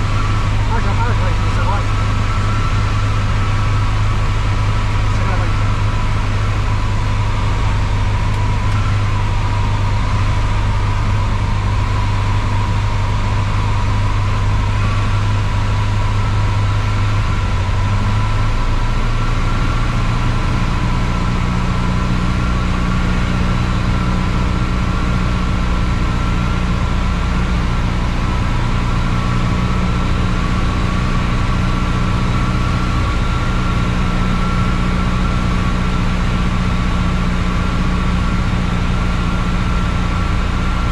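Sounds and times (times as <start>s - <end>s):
piston aircraft engine and propeller: 0.0s - 40.9s.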